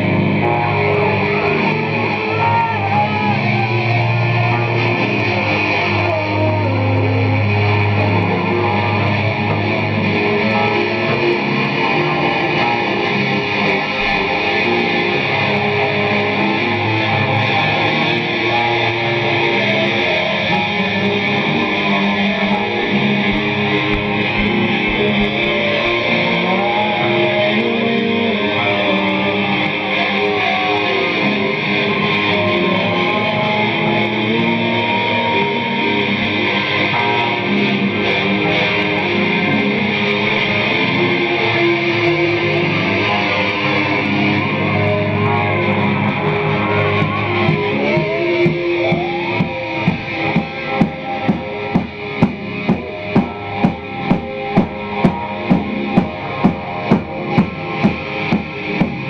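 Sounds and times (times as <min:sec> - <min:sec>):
distorted drones noise music: 0:00.0 - 0:59.0.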